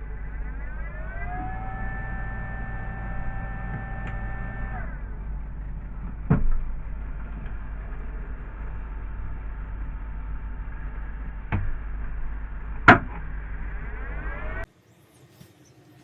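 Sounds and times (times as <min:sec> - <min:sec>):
milling machine motor whine: 0:00.0 - 0:16.0
steady low hum: 0:00.0 - 0:16.0.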